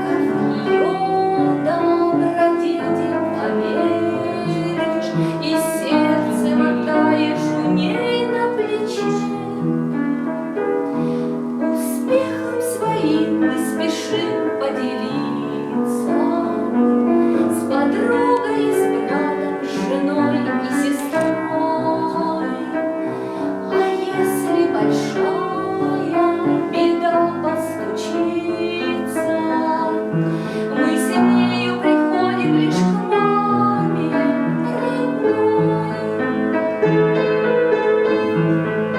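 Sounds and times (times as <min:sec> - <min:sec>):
woman singing slow song: 0:00.0 - 0:09.8, 0:11.8 - 0:22.8, 0:23.7 - 0:36.5
piano accompaniment: 0:00.0 - 0:38.9.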